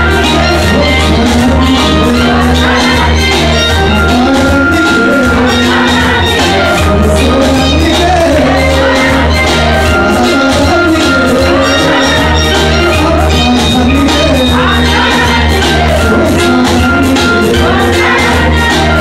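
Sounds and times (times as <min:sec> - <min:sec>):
loud music with heavy bass: 0:00.0 - 0:19.0.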